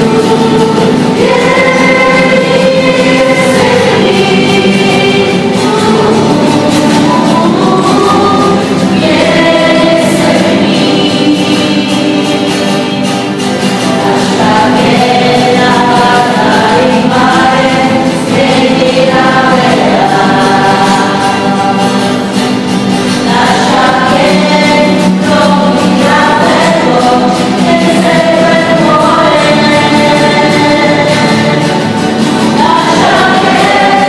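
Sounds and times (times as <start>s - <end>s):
choir singing a hymn: 0.0s - 34.0s.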